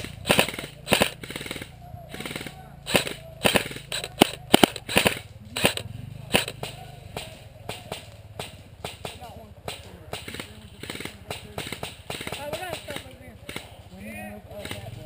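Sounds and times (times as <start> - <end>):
airsoft gun shots: 0.0 - 13.8, 14.5 - 15.0.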